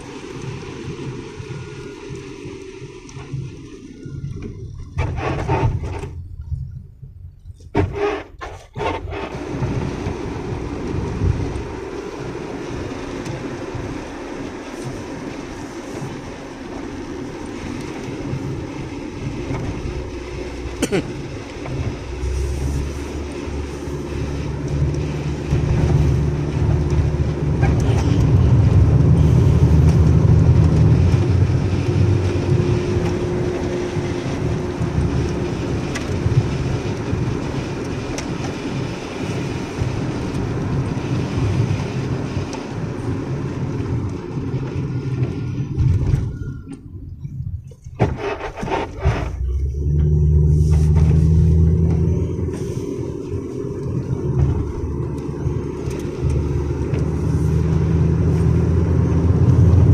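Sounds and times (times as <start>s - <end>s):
engine and tyre rumble on wet road: 0.0s - 59.9s.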